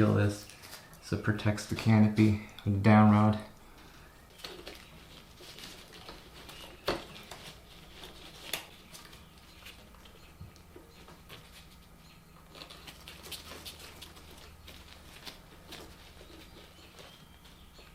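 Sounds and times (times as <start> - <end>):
faint low hum: 0.0 - 17.9.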